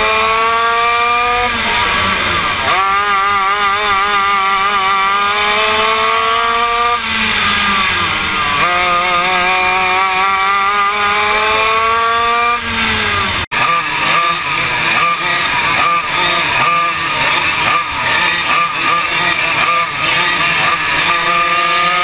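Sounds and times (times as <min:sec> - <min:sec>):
go-kart engine accelerating: 0:00.0 - 0:22.0.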